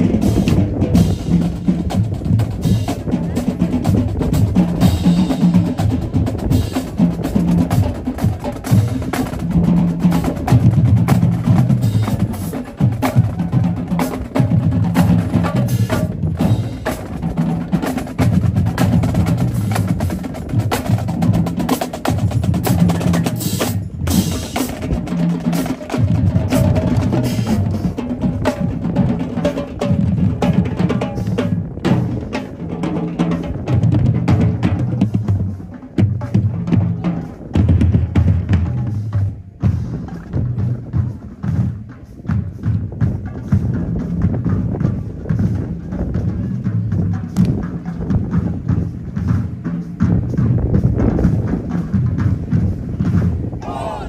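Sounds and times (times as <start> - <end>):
bass drums: 0.0 - 54.0.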